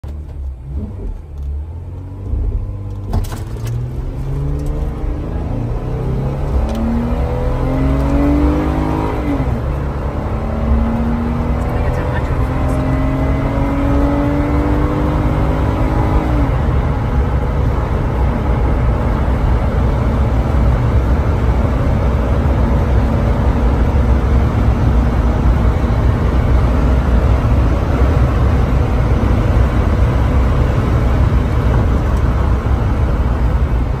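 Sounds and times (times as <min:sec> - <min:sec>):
car engine accelerating: 0:00.0 - 0:34.0
rush of wind and road noise: 0:00.0 - 0:34.0.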